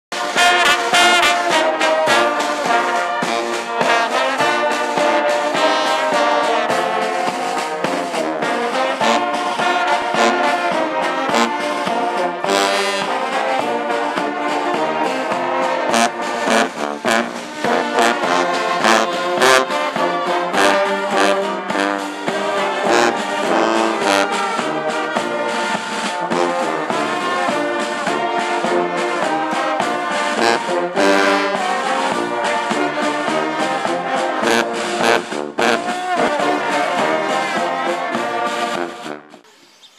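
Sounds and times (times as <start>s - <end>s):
drum strikes: 0.1s - 39.4s
brass band playing: 0.1s - 39.5s.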